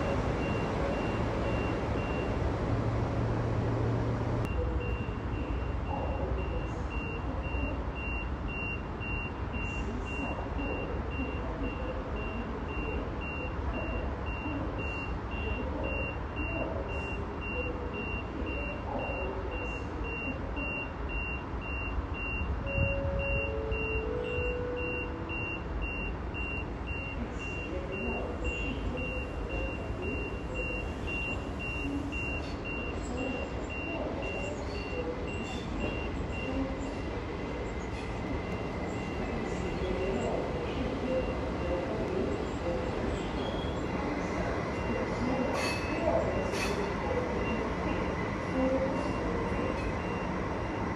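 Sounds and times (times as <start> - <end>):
low rumble of railway noise: 0.0 - 50.9.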